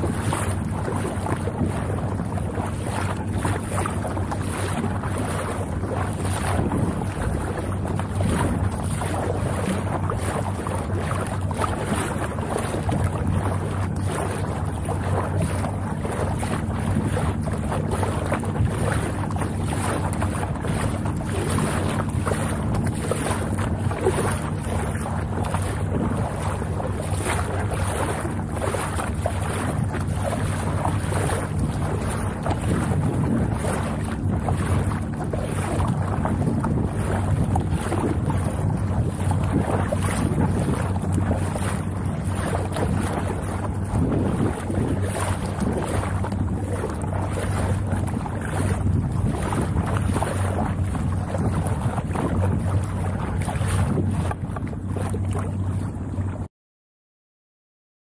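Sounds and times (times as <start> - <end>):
water sloshing along a hull: 0.0 - 56.5
wind buffeting microphone: 0.0 - 56.5.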